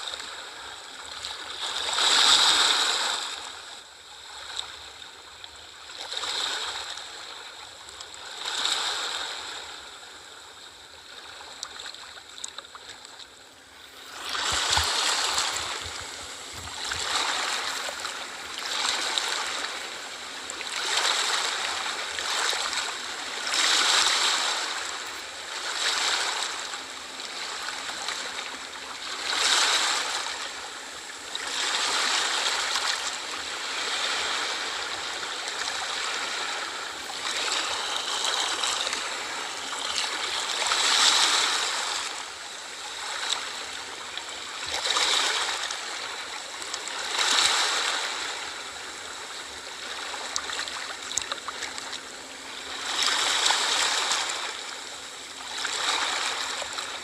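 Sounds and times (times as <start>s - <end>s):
sea waves breaking: 0.0s - 4.8s, 8.2s - 57.0s.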